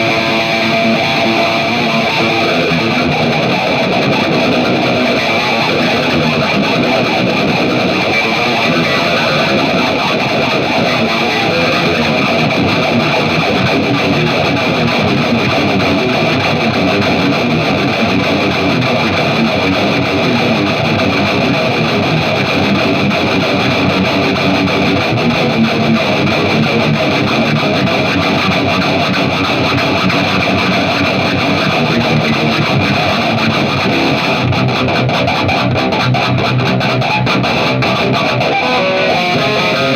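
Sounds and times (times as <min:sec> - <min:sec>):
distorted electric guitar riffs: 0:00.0 - 0:39.9.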